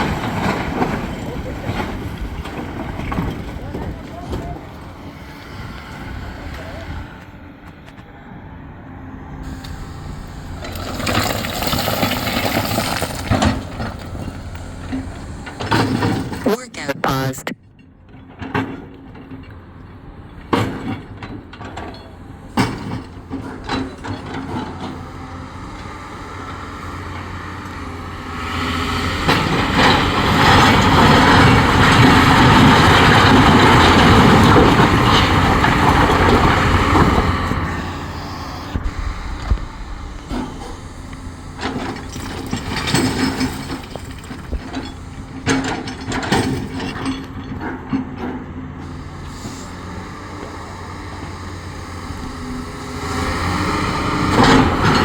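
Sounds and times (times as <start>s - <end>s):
diesel engine running: 0.0s - 17.5s, 19.6s - 55.0s.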